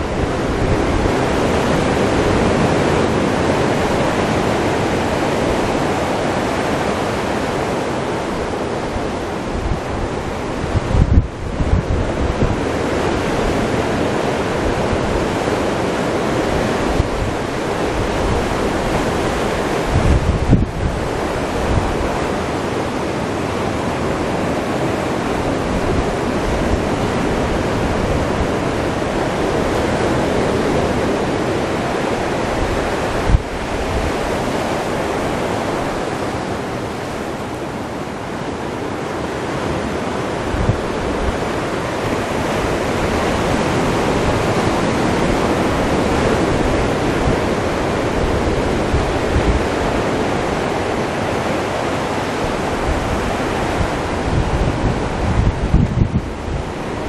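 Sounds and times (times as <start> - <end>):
surf breaking on a beach: 0.0 - 57.0
wind buffeting microphone: 0.0 - 57.0.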